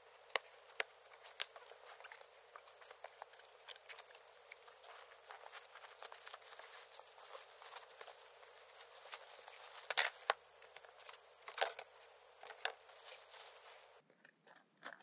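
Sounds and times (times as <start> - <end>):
cardboard box rustling: 0.0 - 14.0
plastic wrapping crinkling: 0.0 - 14.0.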